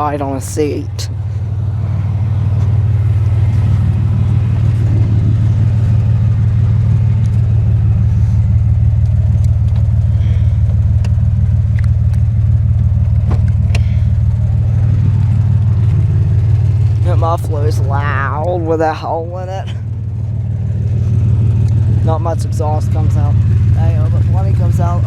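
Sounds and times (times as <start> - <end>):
engine misfiring with loud exhaust: 0.0 - 25.0.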